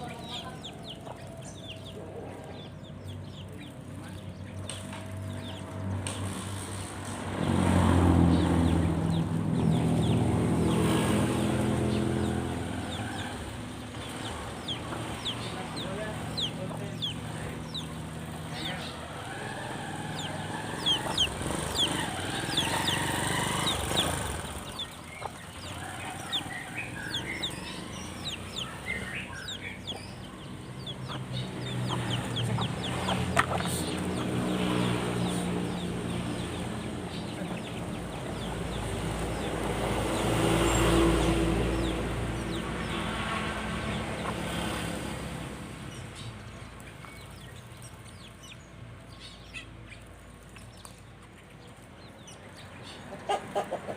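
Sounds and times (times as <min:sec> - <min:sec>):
motor engine: 0:00.0 - 0:51.0
chickens clucking: 0:00.0 - 0:53.9
small birds chirping: 0:00.0 - 0:53.9.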